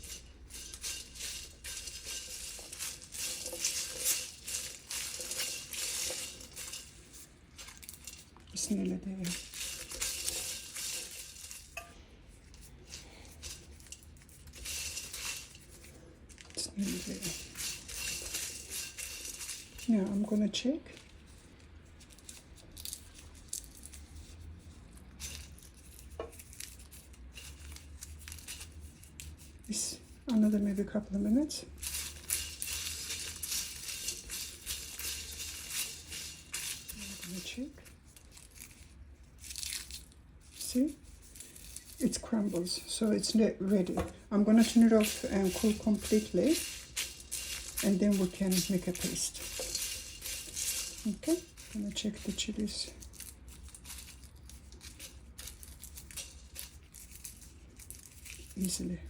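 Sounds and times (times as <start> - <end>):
spices rattling in a wok: 0.0 - 59.0.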